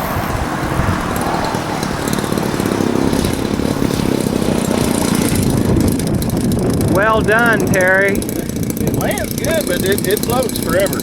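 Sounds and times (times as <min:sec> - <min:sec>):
model plane engine idling: 0:00.1 - 0:11.0.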